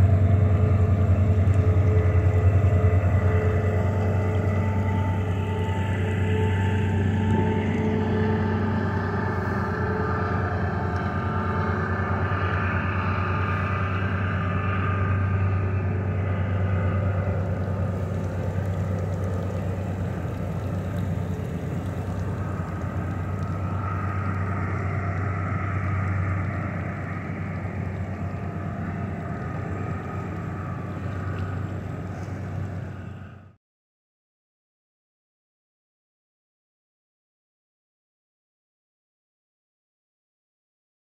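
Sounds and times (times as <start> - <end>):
water noise: 0.0 - 33.5
wind noise: 0.0 - 33.5
small boat motor humming: 0.0 - 33.6.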